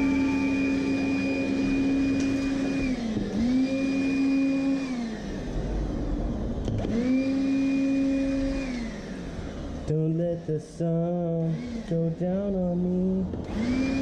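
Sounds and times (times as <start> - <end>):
vacuum cleaner motor whine: 0.0 - 9.9, 11.4 - 14.0.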